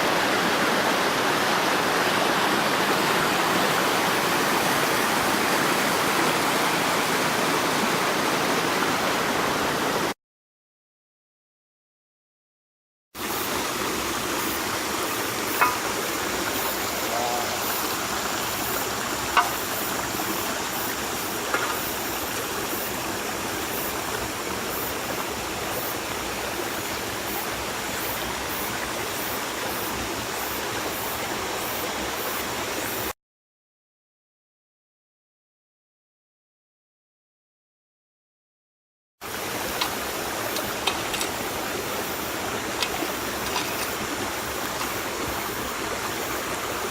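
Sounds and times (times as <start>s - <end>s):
rushing river in flood: 0.0s - 10.2s, 13.2s - 33.1s, 39.2s - 46.9s.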